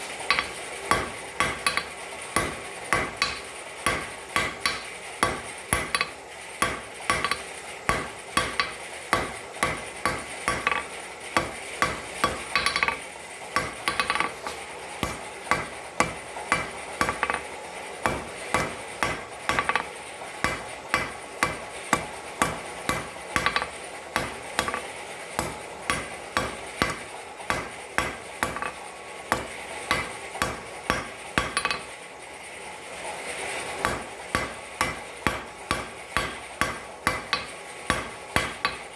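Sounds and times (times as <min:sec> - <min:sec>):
hammer clanging on anvil: 0:00.2 - 0:13.0, 0:13.6 - 0:31.9, 0:33.8 - 0:38.9.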